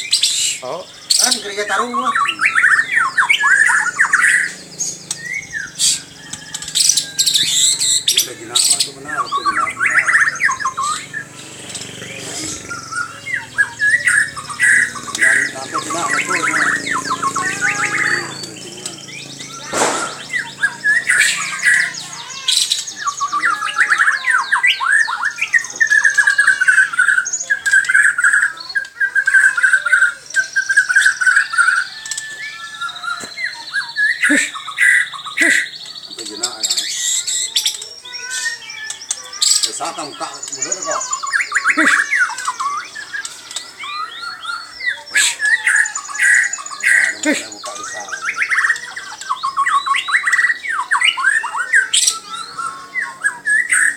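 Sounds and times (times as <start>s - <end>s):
songbird singing chirps and trills: 0.0s - 53.9s.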